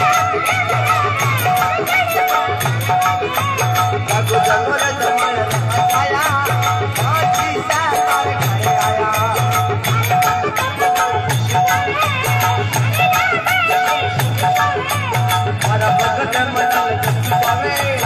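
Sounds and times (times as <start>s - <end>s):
man singing into a microphone: 0.0s - 18.0s
rhythmic folk accompaniment: 0.0s - 18.0s.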